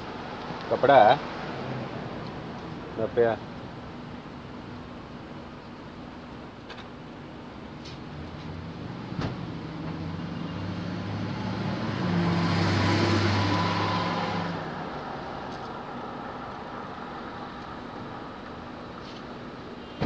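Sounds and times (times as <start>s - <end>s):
steady background noise: 0.0s - 11.7s, 14.4s - 20.0s.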